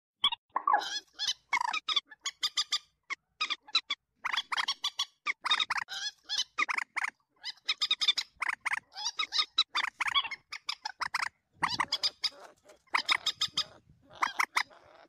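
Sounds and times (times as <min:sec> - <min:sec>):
moorhen calling: 0:00.2 - 0:15.0.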